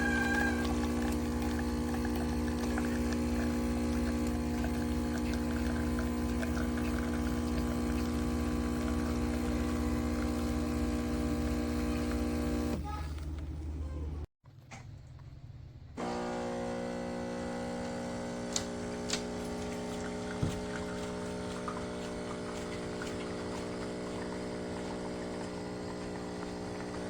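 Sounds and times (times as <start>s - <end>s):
espresso machine pump humming: 0.0s - 13.6s, 16.0s - 27.0s.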